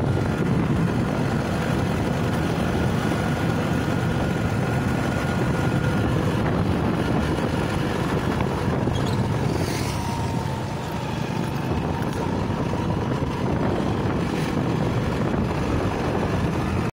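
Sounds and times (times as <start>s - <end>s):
vehicle driving on road: 0.0s - 16.9s.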